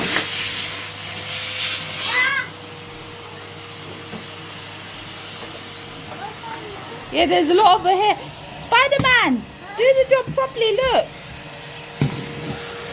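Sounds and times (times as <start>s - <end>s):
vacuum cleaner motor hum: 0.0s - 12.9s
vacuum cleaner suction rushing: 0.0s - 12.9s.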